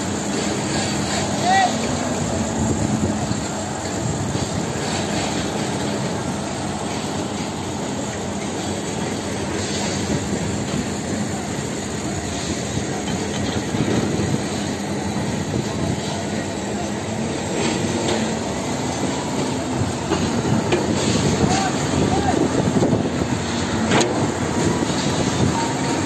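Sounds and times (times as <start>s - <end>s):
concrete pump running: 0.0s - 26.0s.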